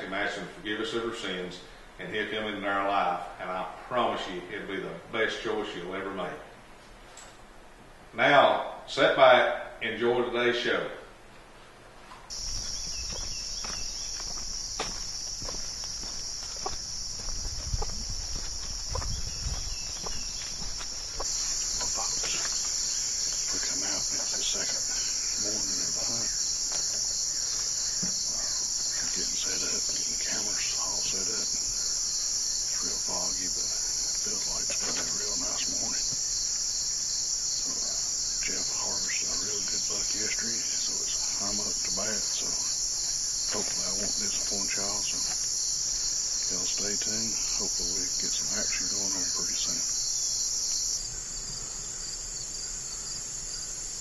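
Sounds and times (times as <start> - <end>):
crickets and insects chorus: 0.0 - 6.4, 12.3 - 54.0.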